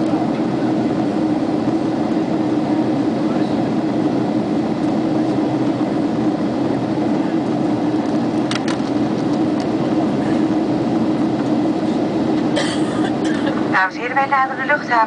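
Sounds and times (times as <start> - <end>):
airliner cabin engine hum: 0.0 - 15.0.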